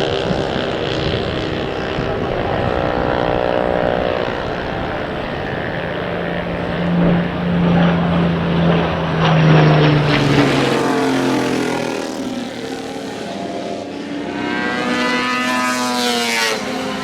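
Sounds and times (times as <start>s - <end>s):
higher-pitched motorcycle engine: 0.0s - 17.0s
motorcycle passing at speed: 0.0s - 17.0s.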